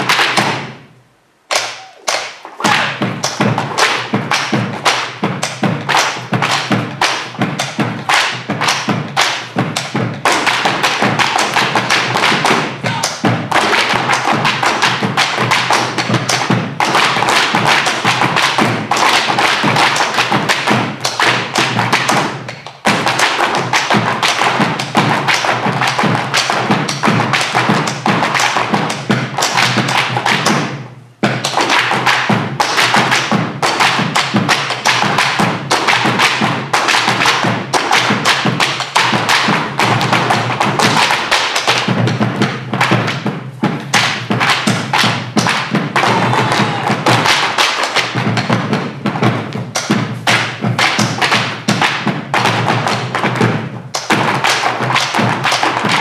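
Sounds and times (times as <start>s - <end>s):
drums: 0.0s - 0.9s, 1.6s - 56.0s
boots stamping on wooden stage: 1.5s - 56.0s.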